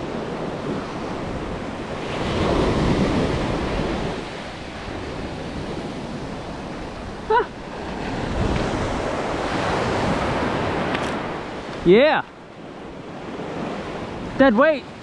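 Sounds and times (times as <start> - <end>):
surf washing on shore: 0.0 - 15.0
wind on microphone: 0.0 - 15.0.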